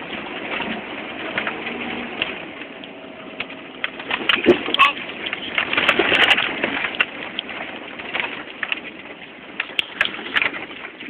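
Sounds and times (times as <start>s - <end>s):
rattles and knocks: 0.0s - 11.0s
truck cab rush: 0.0s - 11.0s.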